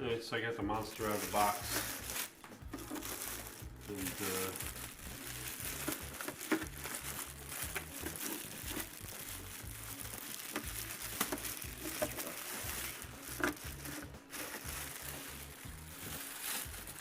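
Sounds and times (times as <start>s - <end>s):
packaging crinkling and rustling: 0.7s - 17.0s.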